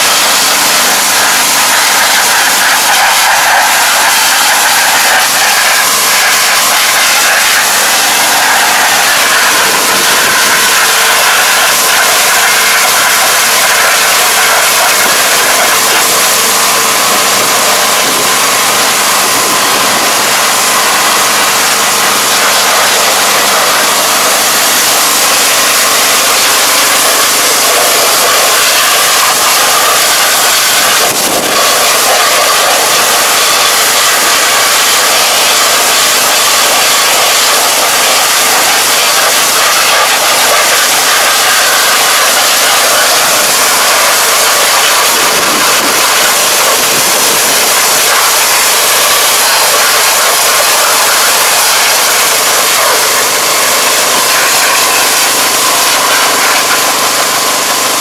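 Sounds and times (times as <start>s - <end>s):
pressure washer jet hissing: 0.0s - 58.0s
washer motor and pump hum: 0.0s - 58.0s.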